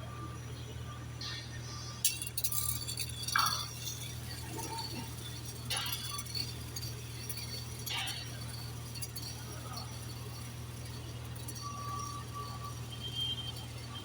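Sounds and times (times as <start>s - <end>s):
steady low hum: 0.0s - 14.0s
light metallic clinks: 2.0s - 14.0s.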